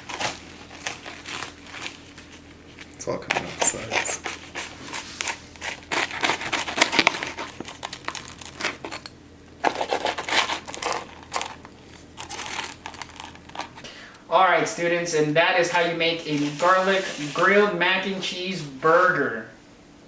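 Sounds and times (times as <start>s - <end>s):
crinkling and rustling: 0.0s - 13.9s, 15.6s - 19.3s.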